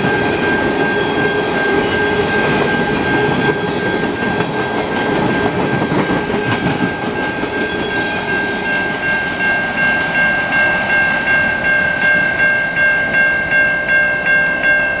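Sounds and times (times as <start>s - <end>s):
crossing bell ringing: 0.0s - 15.0s
train wheels rumbling: 0.0s - 15.0s.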